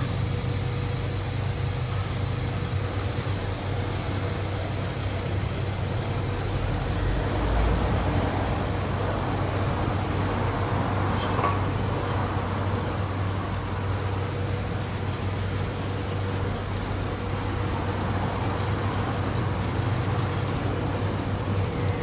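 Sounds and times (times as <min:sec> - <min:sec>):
car wash running: 0:00.0 - 0:22.0.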